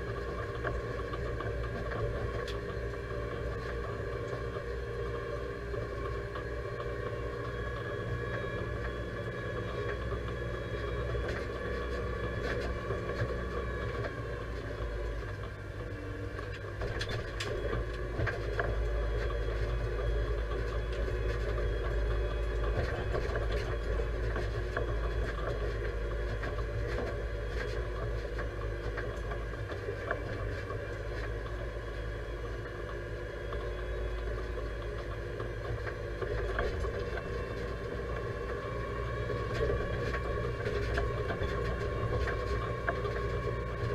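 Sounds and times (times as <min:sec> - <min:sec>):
engine whine: 0:00.0 - 0:43.9
tractor diesel engine running: 0:00.0 - 0:43.9.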